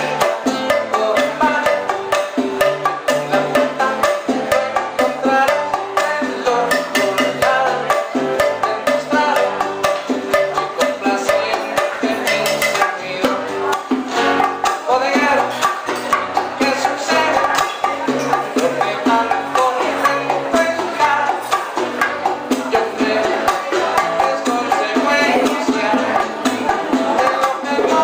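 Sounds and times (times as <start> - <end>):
hand percussion: 0.0 - 28.0
live band music: 0.0 - 28.0
stepping bass line: 0.0 - 28.0.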